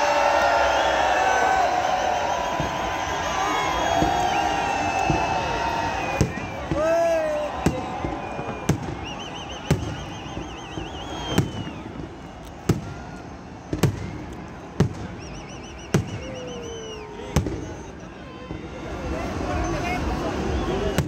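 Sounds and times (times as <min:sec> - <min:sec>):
fireworks banging: 0:02.0 - 0:21.0.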